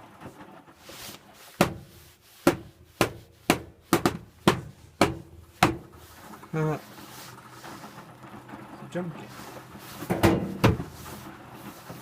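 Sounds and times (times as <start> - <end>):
washing machine tumbling thuds: 1.5 - 12.0.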